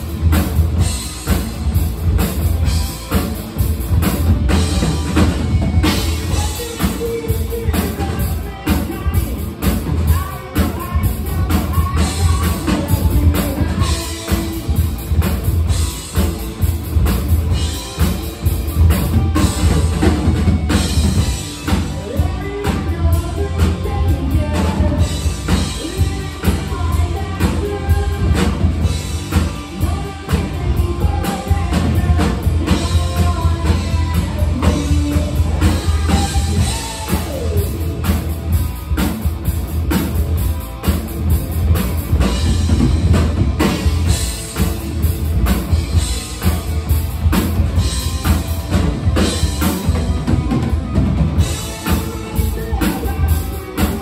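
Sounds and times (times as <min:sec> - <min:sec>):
rock band playing: 0:00.0 - 0:54.0
steady drum beat: 0:00.0 - 0:54.0.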